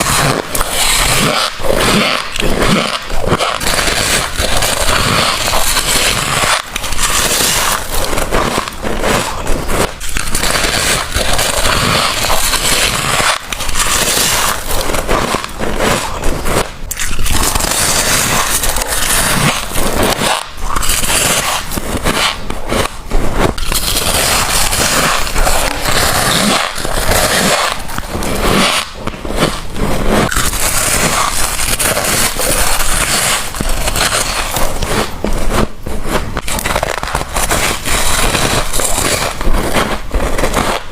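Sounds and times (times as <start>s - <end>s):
crunching freezer frost: 0.0s - 40.9s.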